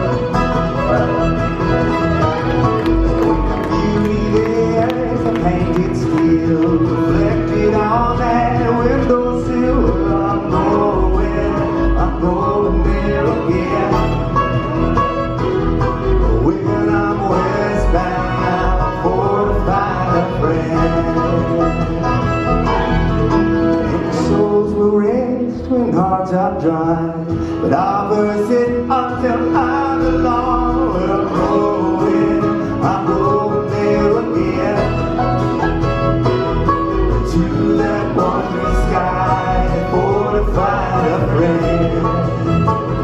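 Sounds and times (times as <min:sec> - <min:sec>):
bluegrass band playing: 0:00.0 - 0:43.0.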